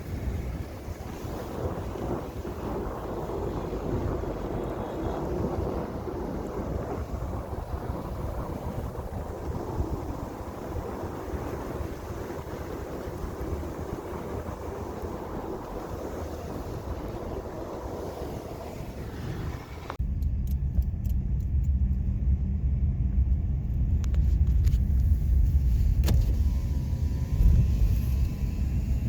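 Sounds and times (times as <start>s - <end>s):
car road and wind noise: 0.0s - 29.0s
heavy low rumble: 0.0s - 29.0s.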